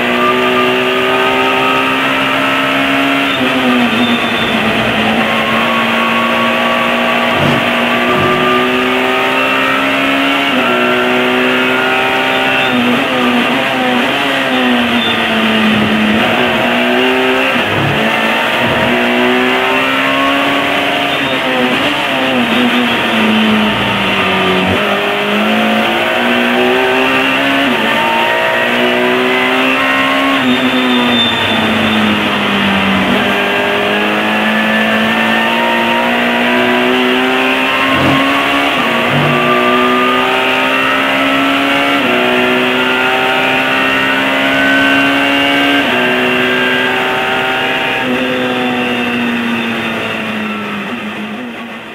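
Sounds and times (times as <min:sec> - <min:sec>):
race car engine accelerating: 0:00.0 - 0:51.9.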